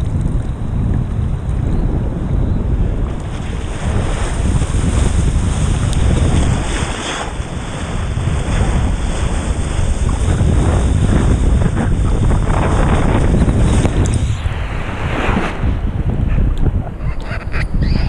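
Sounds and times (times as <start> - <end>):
wind noise on microphone: 0.0 - 18.0
sea water rushing and splashing: 1.2 - 17.5.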